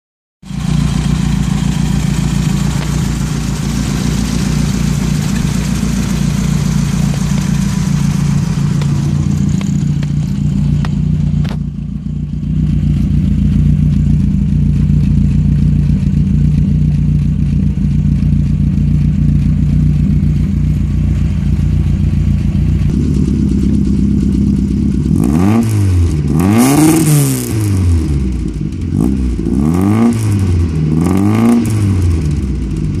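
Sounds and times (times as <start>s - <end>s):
engine idling: 0.4s - 33.0s
engine revving: 0.5s - 33.0s.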